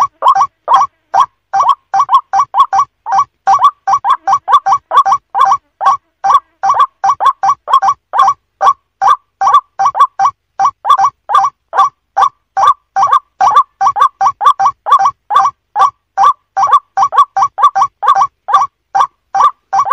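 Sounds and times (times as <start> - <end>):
bird calling short repeated notes: 0.0 - 19.9.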